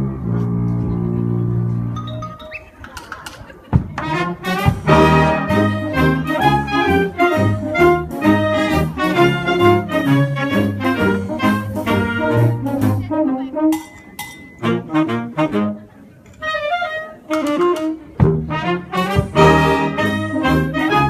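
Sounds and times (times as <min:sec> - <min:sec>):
upbeat brass band music: 0:03.8 - 0:21.0.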